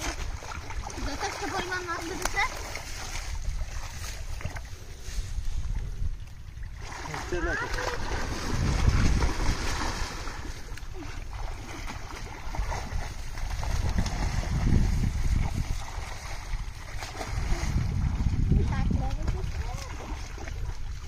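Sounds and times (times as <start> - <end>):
people splashing in water: 0.0 - 5.2, 6.6 - 21.0
wind buffeting microphone: 0.0 - 21.0.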